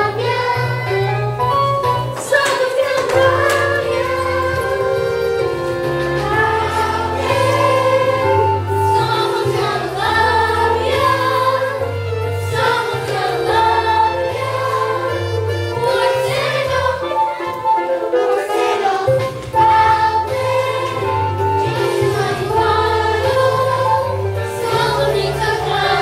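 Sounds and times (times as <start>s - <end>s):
instrumental backing with bass: 0.0s - 2.2s, 3.1s - 26.0s
choir singing held notes: 2.0s - 26.0s.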